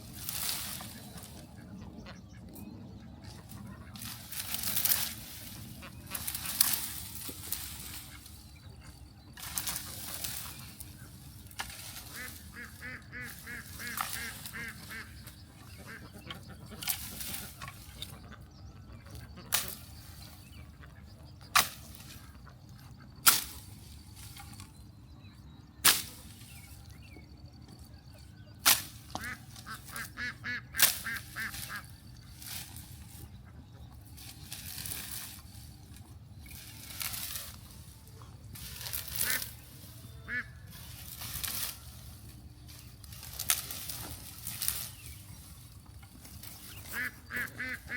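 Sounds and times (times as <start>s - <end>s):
ducks quacking: 0.0s - 23.6s, 26.8s - 47.9s
steady low hum: 0.0s - 47.9s.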